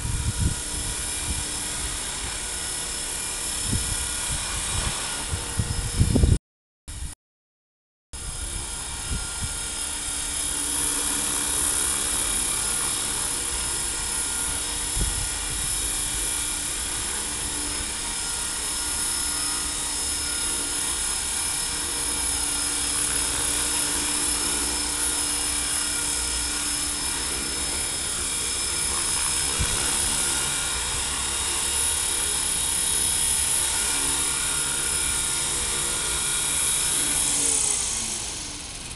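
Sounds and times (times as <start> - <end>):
spinning rotor hum: 0.0 - 6.4, 8.2 - 38.9
rc helicopter motor whine: 0.0 - 7.2, 8.2 - 38.9.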